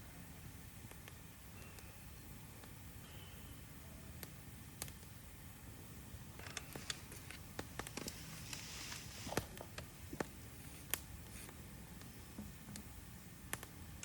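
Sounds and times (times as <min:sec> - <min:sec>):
burning wood hissing: 0:00.0 - 0:14.0
campfire crackling: 0:00.0 - 0:14.0.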